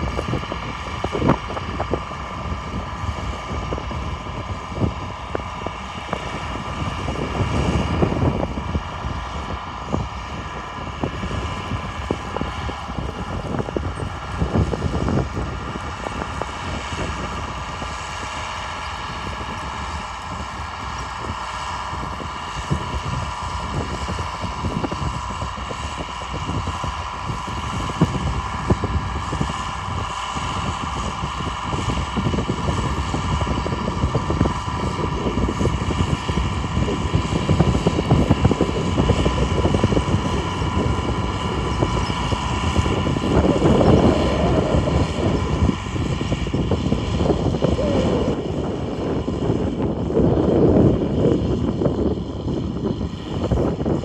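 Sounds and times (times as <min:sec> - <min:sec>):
tractor diesel engine rumbling: 0:00.0 - 0:53.4
constant whine: 0:00.0 - 0:54.0.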